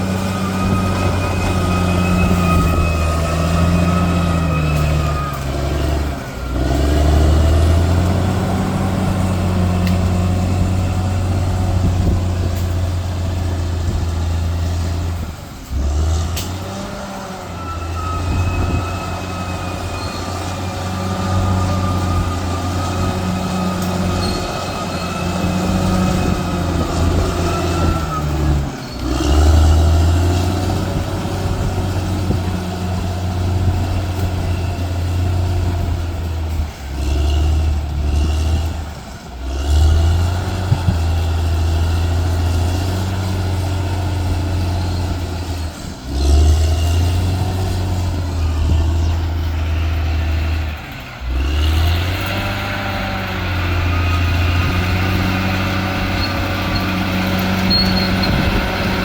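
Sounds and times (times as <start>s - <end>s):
bulldozer engine under load: 0.0s - 59.0s.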